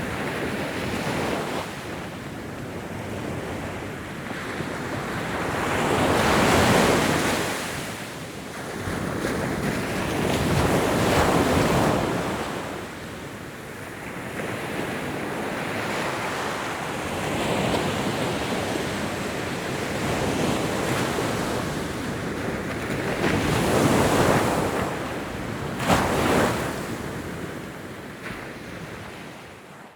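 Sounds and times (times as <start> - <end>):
ocean waves breaking on shore: 0.0 - 29.9.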